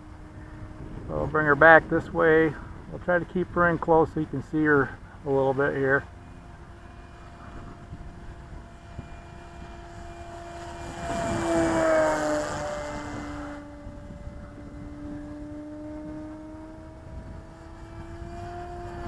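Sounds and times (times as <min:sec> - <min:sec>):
model airplane motor whining: 0:00.0 - 0:19.0.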